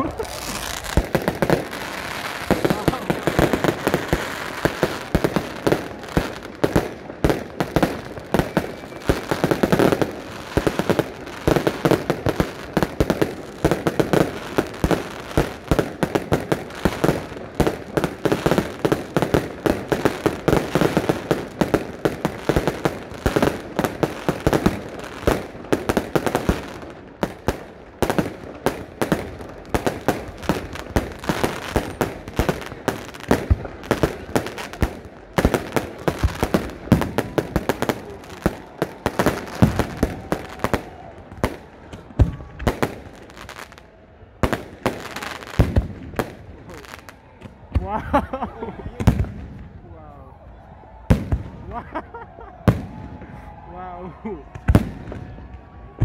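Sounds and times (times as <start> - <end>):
fireworks bangs and crackles: 0.0 - 49.9, 50.5 - 56.0.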